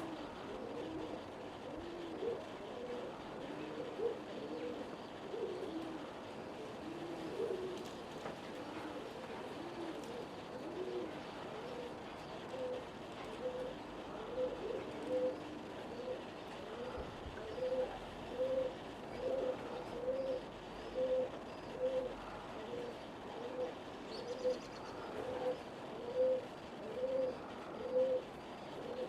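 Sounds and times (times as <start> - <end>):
pigeon cooing: 0.0 - 29.0.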